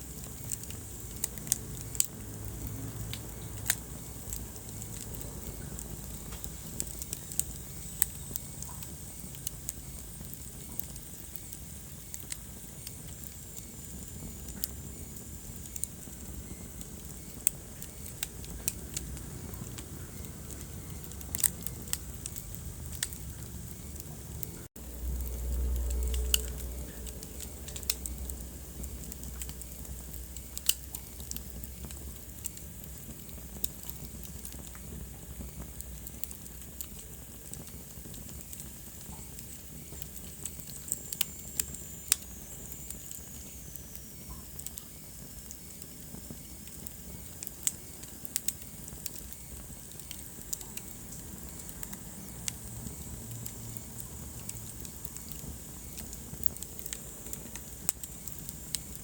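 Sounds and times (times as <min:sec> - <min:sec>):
fire low hiss: 0:00.0 - 0:59.0
wood fire pops and snaps: 0:00.0 - 0:59.0.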